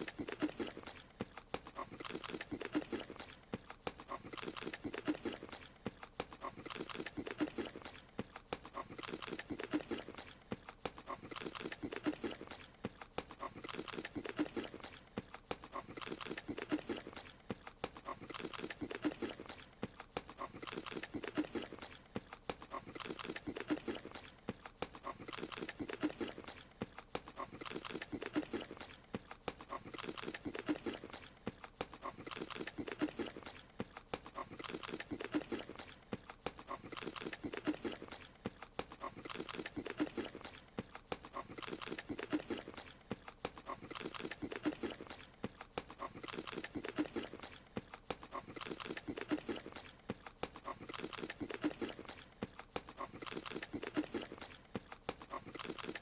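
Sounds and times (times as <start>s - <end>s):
small animal chewing and crunching: 0.0s - 56.0s.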